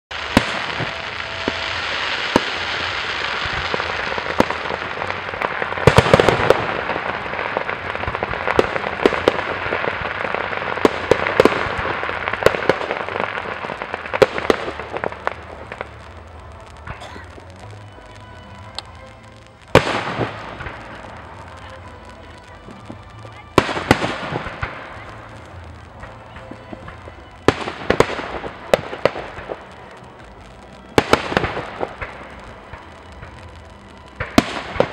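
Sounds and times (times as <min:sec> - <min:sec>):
fireworks bangs: 0:00.1 - 0:34.9
fireworks crackling: 0:00.1 - 0:34.9.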